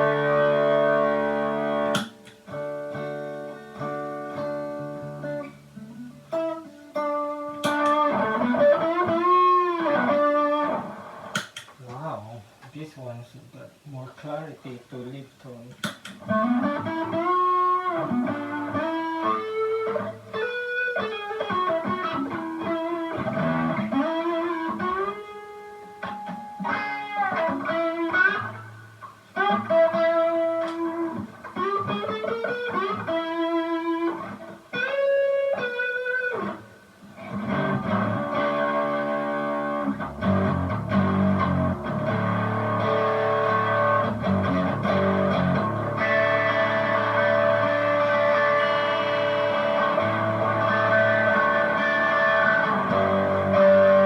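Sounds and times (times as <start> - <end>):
distorted electric guitar: 0.0 - 12.0, 15.6 - 54.0.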